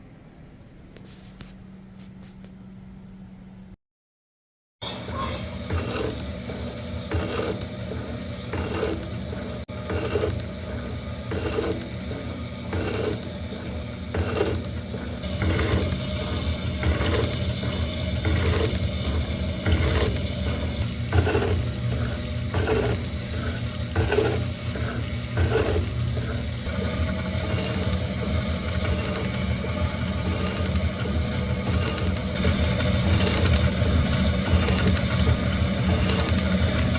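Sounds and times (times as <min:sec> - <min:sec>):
machine humming: 0:04.8 - 0:36.9
ratchet feed clicking: 0:05.7 - 0:09.2, 0:09.8 - 0:36.9.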